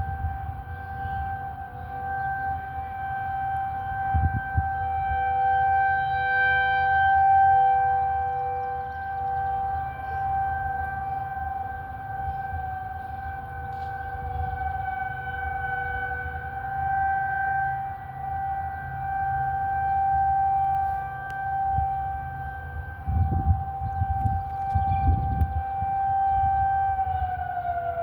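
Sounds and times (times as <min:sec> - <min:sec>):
outdoor warning siren chord: 0:00.0 - 0:28.0.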